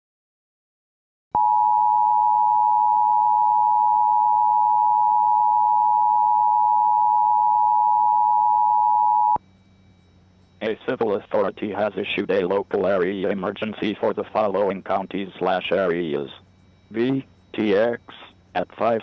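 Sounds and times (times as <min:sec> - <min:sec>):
two-tone alert signal: 0:01.4 - 0:09.4, 0:10.6 - 0:19.0.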